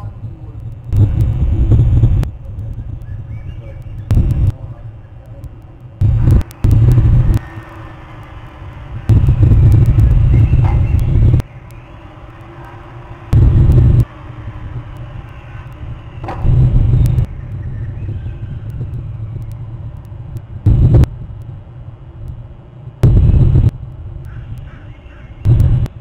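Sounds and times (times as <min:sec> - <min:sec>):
steady background hiss: 0:00.0 - 0:25.9
wind buffeting microphone: 0:00.0 - 0:26.0.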